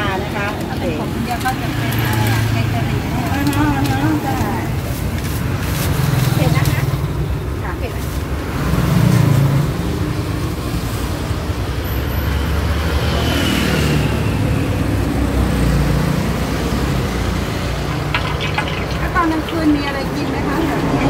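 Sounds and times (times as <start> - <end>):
traffic engine and road rumble: 0.0 - 21.0.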